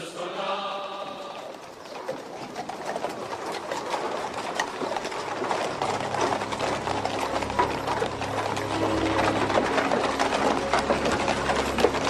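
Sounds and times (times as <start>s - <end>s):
street crowd bustle: 0.2s - 12.0s
scattered clattering: 1.5s - 12.0s.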